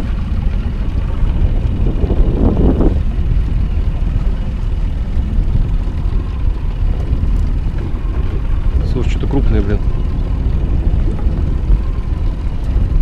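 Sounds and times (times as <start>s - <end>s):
outboard motor rumbling: 0.0s - 13.0s
wind on microphone: 0.0s - 13.0s.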